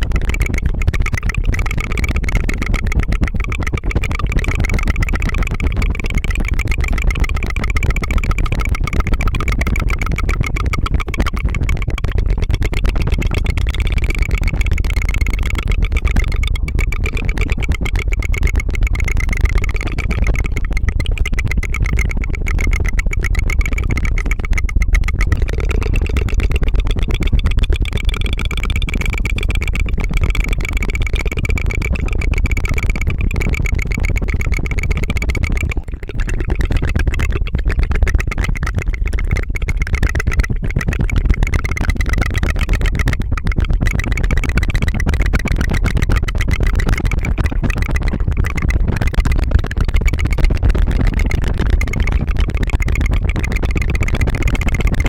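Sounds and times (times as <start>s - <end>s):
tongue fluttering trill: 0.0s - 55.0s.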